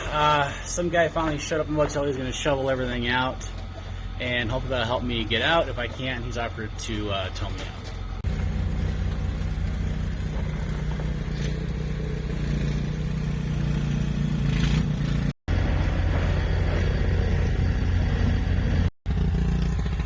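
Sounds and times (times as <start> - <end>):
snowblower engine running: 0.0 - 20.0.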